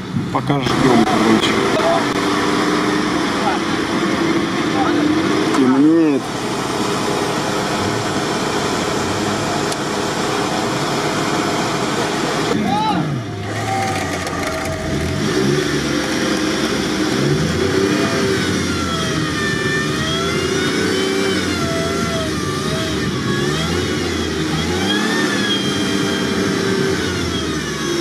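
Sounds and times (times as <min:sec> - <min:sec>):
off-road engines revving: 0:00.0 - 0:28.0.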